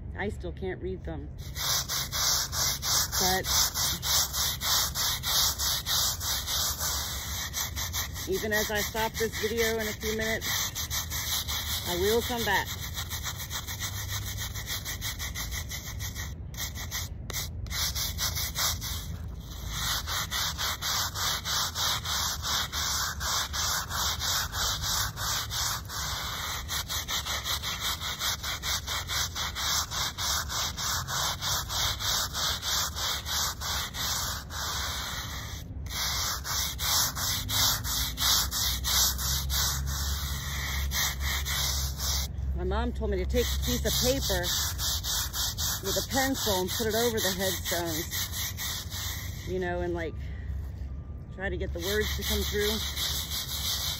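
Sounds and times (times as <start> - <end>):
scrub brush scrubbing stone: 1.4 - 50.0, 51.7 - 53.9.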